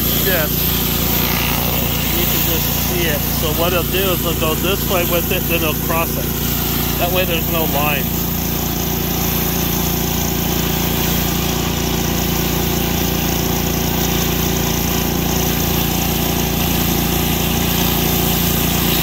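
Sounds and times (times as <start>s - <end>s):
pressure washer engine drone: 0.0s - 19.0s
water spray hissing: 0.0s - 19.0s.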